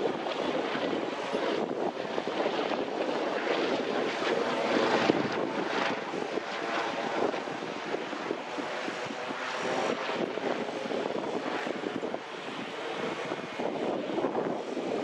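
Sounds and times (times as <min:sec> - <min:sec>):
airliner engines rushing: 0:00.0 - 0:15.0.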